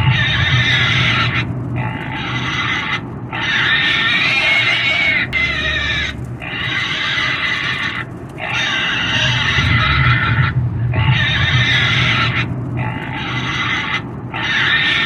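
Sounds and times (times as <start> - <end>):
low rumble: 0.0 - 15.0
pig squealing: 0.0 - 15.0.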